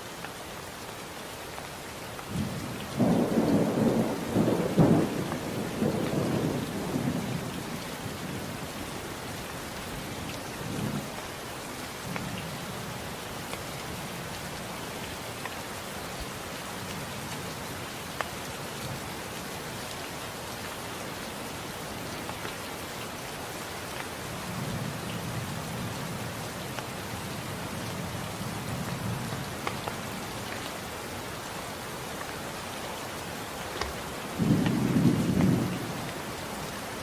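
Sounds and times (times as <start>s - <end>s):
steady rain: 0.0s - 37.0s
raindrops ticking close by: 0.1s - 21.2s, 21.8s - 37.0s.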